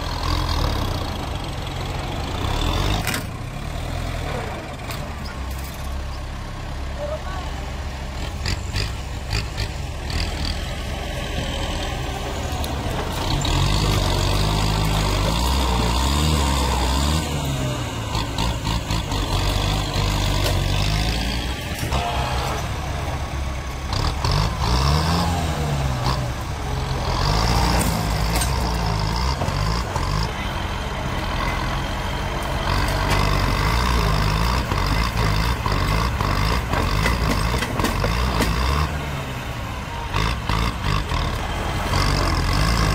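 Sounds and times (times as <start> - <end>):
tractor diesel engine revving: 0.0 - 42.9.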